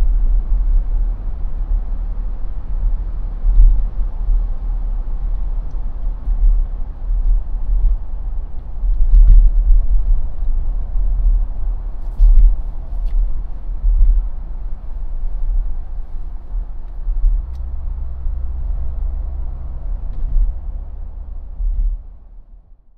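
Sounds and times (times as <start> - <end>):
vehicle road rumble: 0.0 - 22.9.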